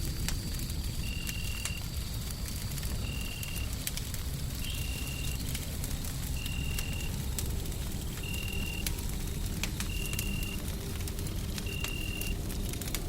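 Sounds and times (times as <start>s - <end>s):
low rumble of white noise: 0.0s - 13.0s
wood fire crackling and popping: 0.0s - 13.0s.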